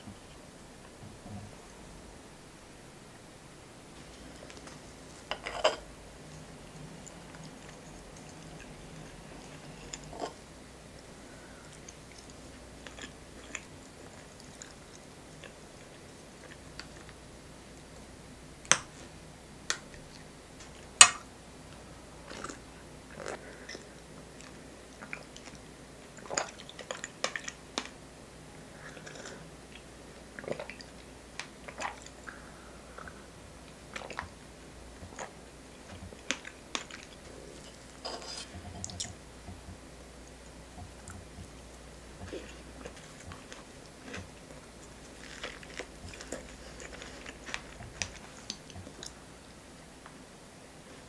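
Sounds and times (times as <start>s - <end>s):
soft chewing: 3.9s - 51.0s.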